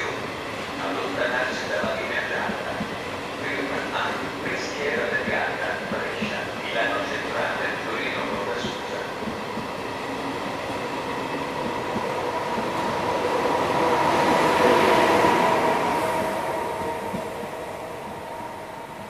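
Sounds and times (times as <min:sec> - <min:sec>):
passenger train passing: 0:00.0 - 0:19.0
train wheels whining: 0:00.0 - 0:19.0.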